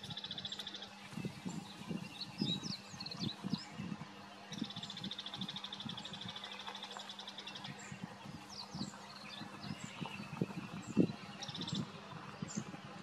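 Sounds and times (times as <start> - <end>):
songbirds trilling: 0.0 - 13.0.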